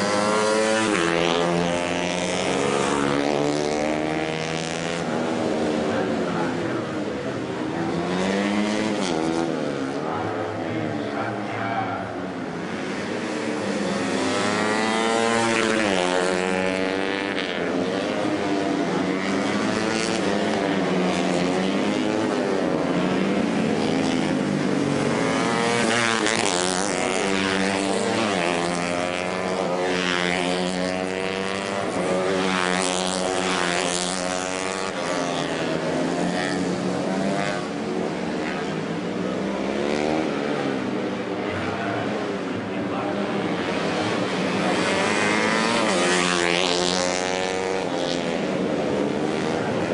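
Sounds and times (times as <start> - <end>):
racing motorcycle engines revving: 0.0 - 49.9.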